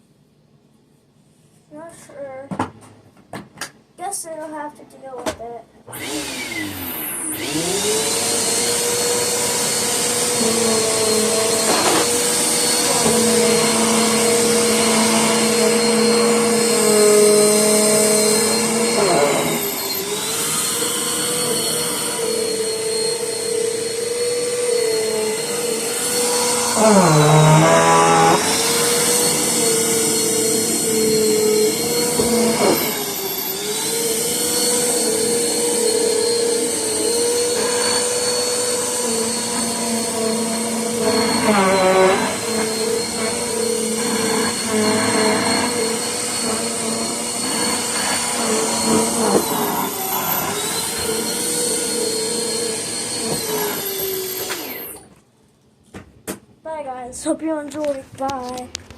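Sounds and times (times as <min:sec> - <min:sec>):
vacuum cleaner motor whine: 0:05.9 - 0:55.2.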